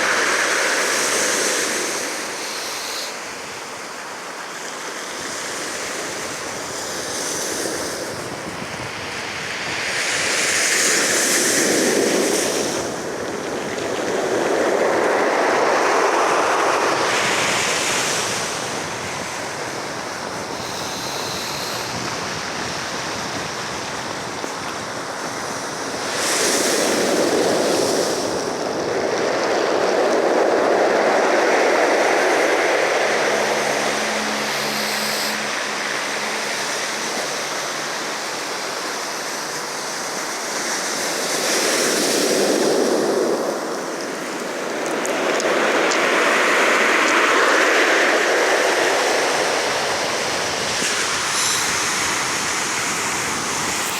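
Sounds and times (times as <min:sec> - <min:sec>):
ocean waves breaking ashore: 0:00.0 - 0:53.9.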